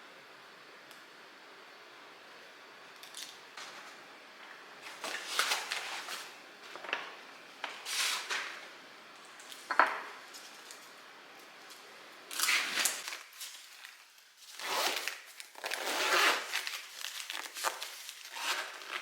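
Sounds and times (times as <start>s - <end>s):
rustling and clattering of kitchen items: 3.1s - 19.0s.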